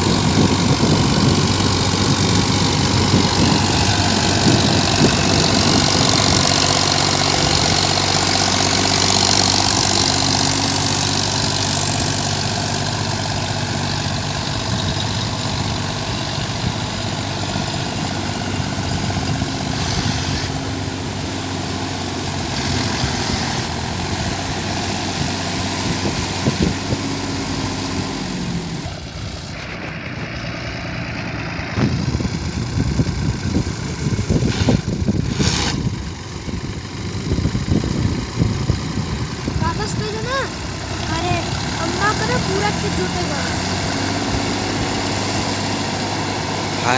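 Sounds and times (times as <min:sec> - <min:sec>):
rotavator rushing noise: 0:00.0 - 0:26.7, 0:31.7 - 0:46.9
tractor diesel engine running: 0:00.0 - 0:46.9.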